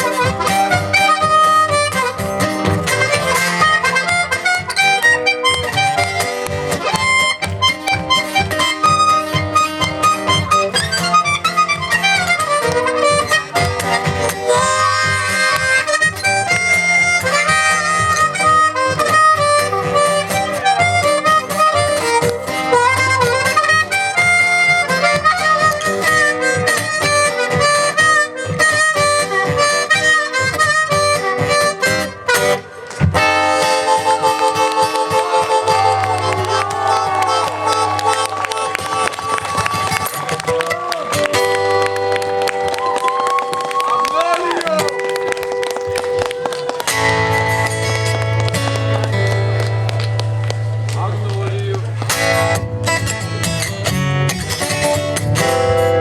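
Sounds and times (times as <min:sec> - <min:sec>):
guitar accompaniment with beat: 0:00.0 - 0:56.0
harmonica melody: 0:00.0 - 0:56.0.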